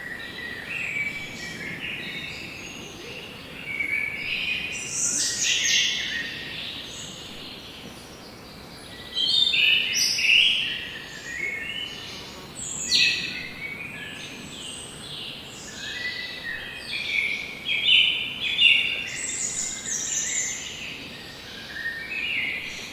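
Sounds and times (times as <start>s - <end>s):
faint steady background hiss: 0.0s - 22.9s
forest birds chirping and trilling: 0.0s - 22.9s.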